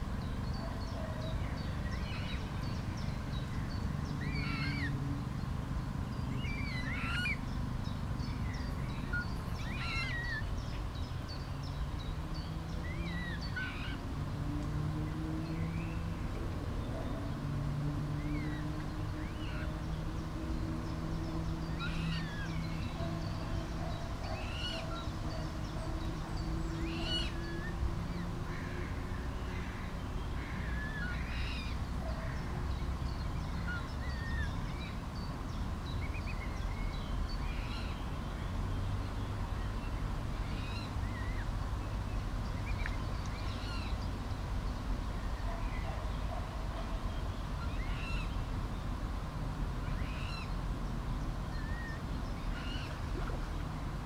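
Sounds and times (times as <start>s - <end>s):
birds chirping: 0.0s - 49.1s.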